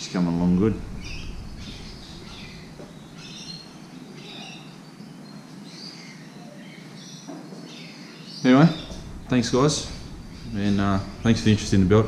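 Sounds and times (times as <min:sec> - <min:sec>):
birds chirping: 0:00.0 - 0:12.0
faint background hiss: 0:00.0 - 0:12.0.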